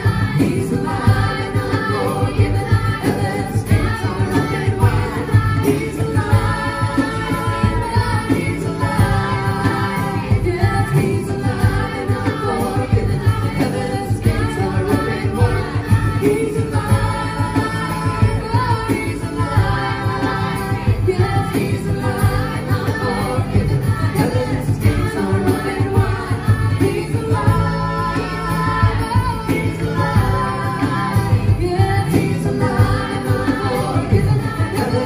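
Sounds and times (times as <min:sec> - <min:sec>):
acoustic guitar: 0:00.0 - 0:35.0
electric bass: 0:00.0 - 0:35.0
group singing gospel: 0:00.0 - 0:35.0.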